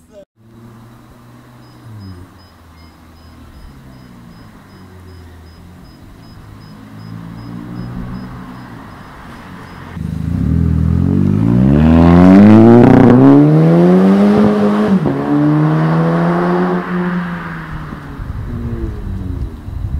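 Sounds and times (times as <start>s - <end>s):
car engine revving: 0.4s - 19.7s.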